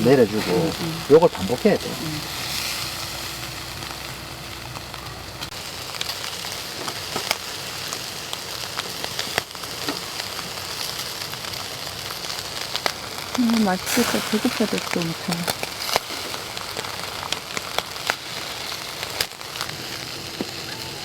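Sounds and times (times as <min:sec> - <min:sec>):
charcoal popping and crackling: 0:00.0 - 0:21.0
meat sizzling on a grill: 0:00.0 - 0:21.0.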